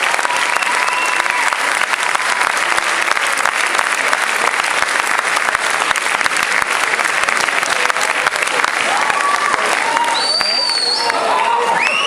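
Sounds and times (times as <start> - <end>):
large audience clapping: 0.0 - 12.0.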